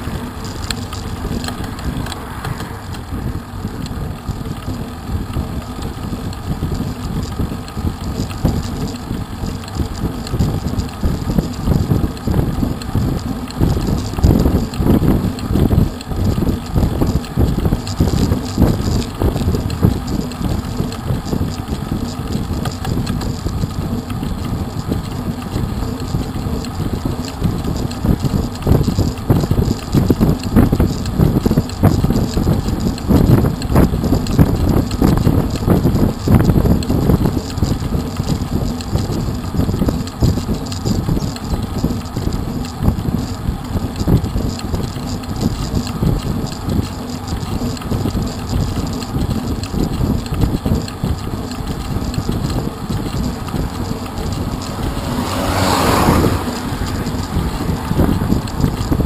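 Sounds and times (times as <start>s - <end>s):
bicycle tyres rolling on tarmac: 0.0s - 59.0s
wind buffeting microphone: 0.0s - 59.0s.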